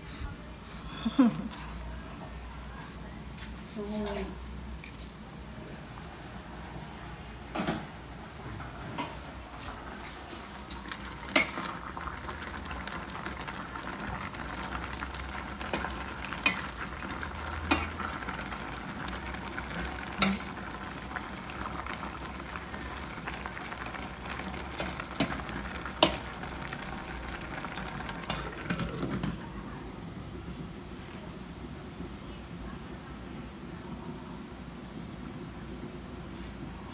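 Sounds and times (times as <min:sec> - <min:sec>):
food sizzling and bubbling: 0:00.0 - 0:36.9.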